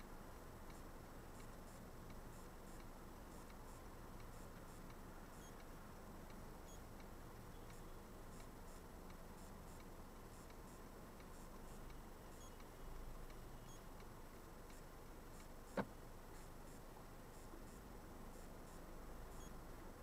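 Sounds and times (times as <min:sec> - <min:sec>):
faint high ticks: 0:00.6 - 0:17.8.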